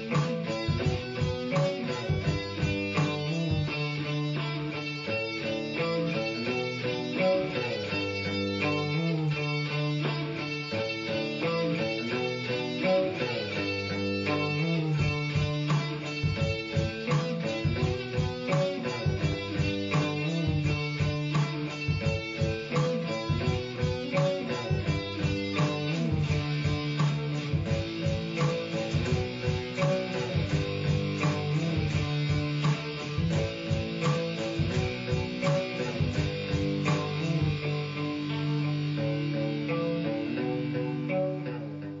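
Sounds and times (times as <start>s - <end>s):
electric guitar playing: 0.0s - 42.0s.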